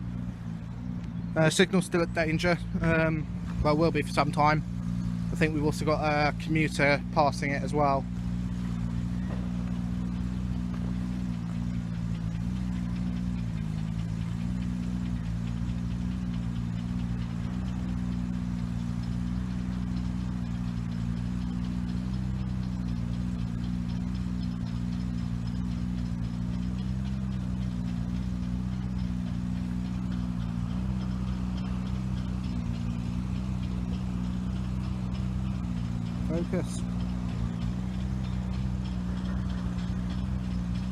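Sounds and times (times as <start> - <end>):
diesel train engine idling: 0.0 - 40.9.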